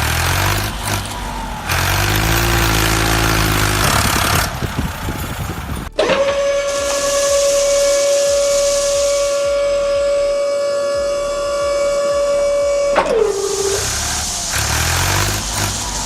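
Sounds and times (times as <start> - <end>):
whistle tone: 0.0 - 4.8, 5.8 - 16.0.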